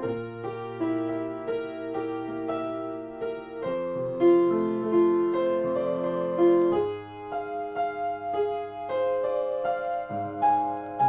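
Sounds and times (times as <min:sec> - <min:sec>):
solo piano: 0:00.0 - 0:11.0.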